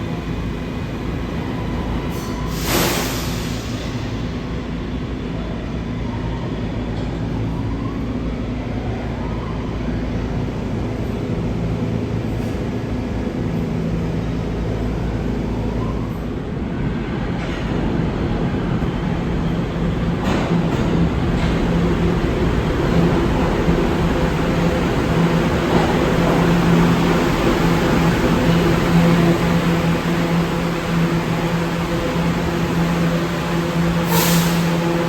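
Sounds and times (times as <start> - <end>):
subway train rumbling: 0.0 - 35.0.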